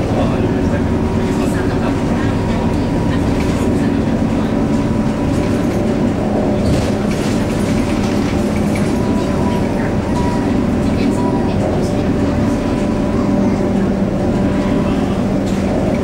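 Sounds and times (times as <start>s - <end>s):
bus diesel engine running: 0.0s - 16.0s
road and tyre noise: 0.0s - 16.0s.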